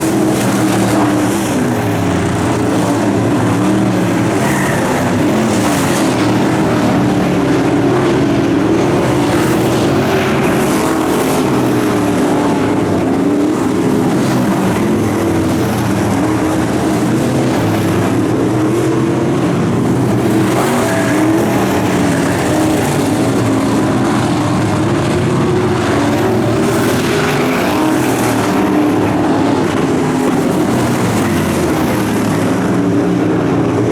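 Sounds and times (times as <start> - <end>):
race car engine running hard: 0.0 - 33.9.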